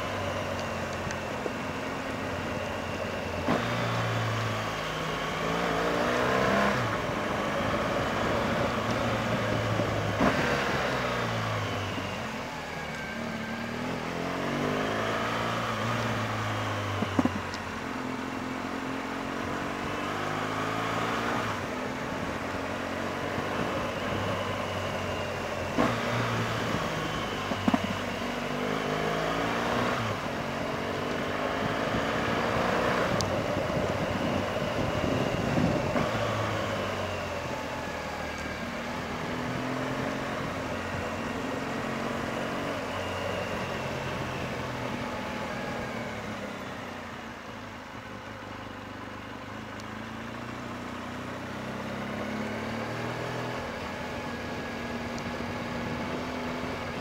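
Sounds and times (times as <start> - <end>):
motorcycle engine running: 0.0 - 20.6, 21.5 - 29.3, 30.0 - 57.0.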